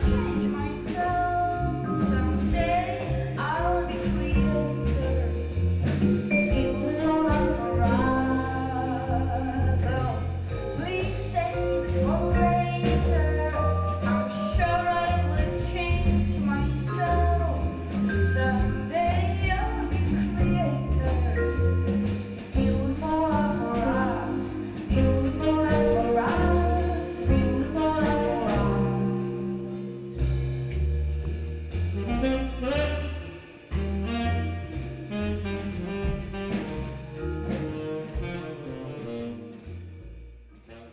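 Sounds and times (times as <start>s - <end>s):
bass line: 0.0s - 40.9s
live band performing: 0.0s - 40.9s.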